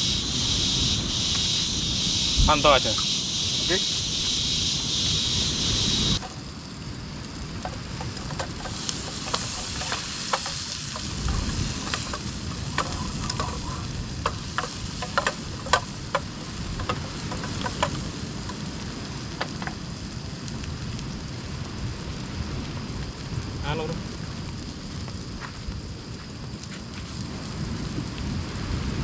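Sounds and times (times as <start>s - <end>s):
oil sizzling in a pan: 0.0s - 29.0s.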